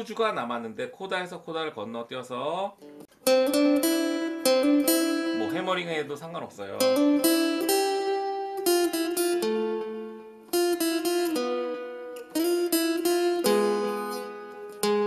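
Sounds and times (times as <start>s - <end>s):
acoustic guitar melody: 2.7s - 15.0s.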